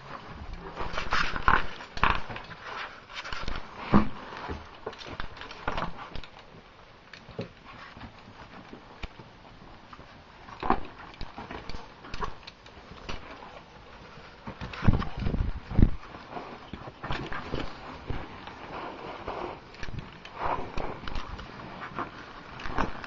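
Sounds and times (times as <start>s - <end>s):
caving gear clacking and rustling: 0.0s - 23.0s.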